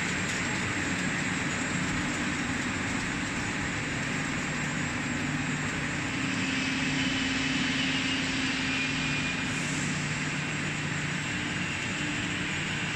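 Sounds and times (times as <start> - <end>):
industrial machinery humming: 0.0 - 12.9.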